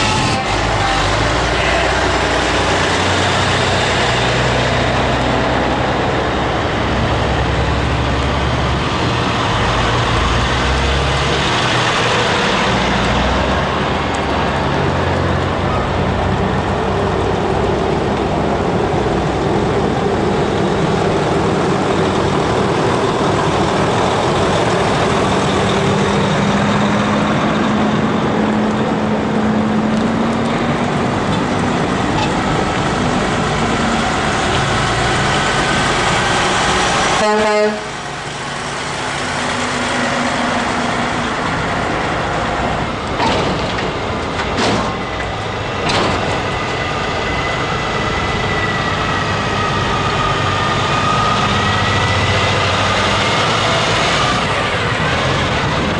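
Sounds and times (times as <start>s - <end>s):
trucks driving past: 0.0s - 55.9s.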